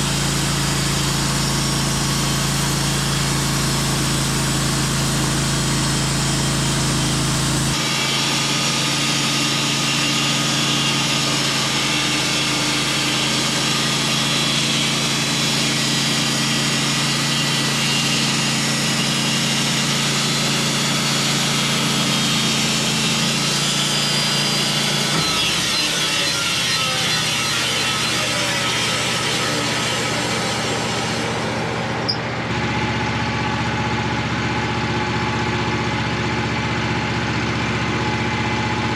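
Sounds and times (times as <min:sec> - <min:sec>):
saw cutting through log: 0:00.0 - 0:38.9
sawmill engine under load: 0:00.0 - 0:38.9.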